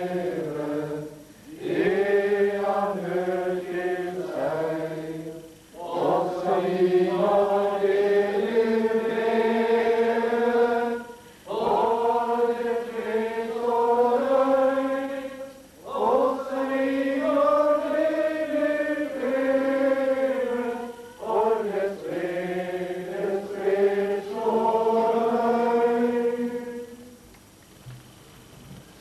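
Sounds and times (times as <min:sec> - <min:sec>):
group singing in unison: 0:00.0 - 0:27.2.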